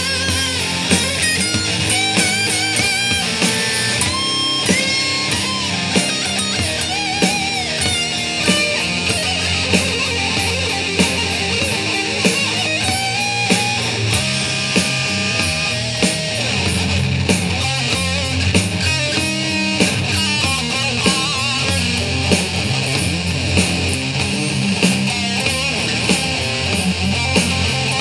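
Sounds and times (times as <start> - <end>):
backing track drums and bass: 0.0 - 28.0
electric guitar lead: 0.0 - 28.0.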